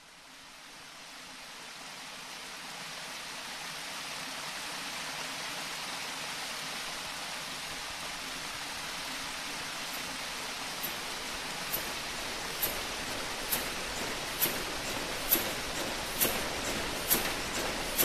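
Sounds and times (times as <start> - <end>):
stream running water: 0.0 - 18.0.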